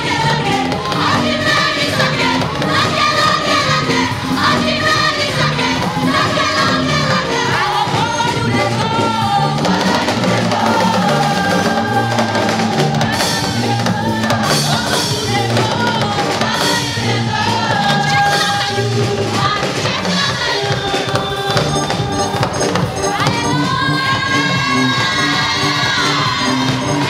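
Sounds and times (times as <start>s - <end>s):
gospel choir singing: 0.0s - 27.0s
live band playing: 0.0s - 27.0s.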